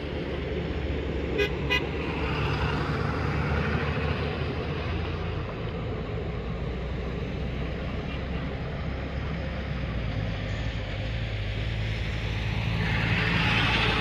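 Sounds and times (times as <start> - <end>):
diesel truck engines rumbling: 0.0 - 14.0
passing road traffic: 0.0 - 14.0.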